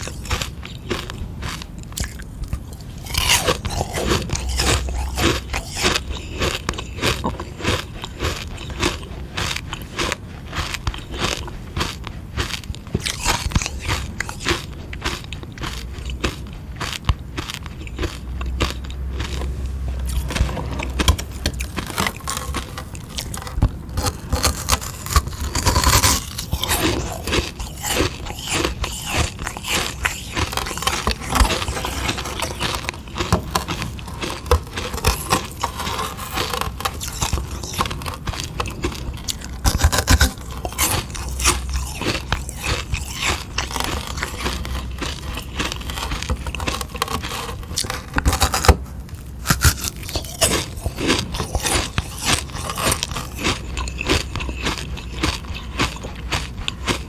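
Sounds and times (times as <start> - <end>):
crunching and chewing ice lolly: 0.0 - 57.0.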